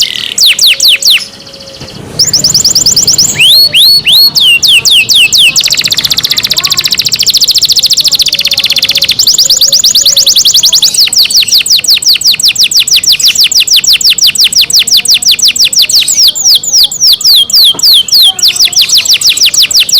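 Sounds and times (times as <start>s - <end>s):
canary singing: 0.0s - 19.9s.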